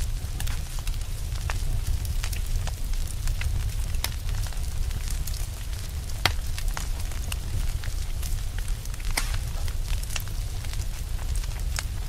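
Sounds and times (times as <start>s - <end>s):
fire crackling: 0.0s - 12.0s
low steady rumble: 0.0s - 12.0s.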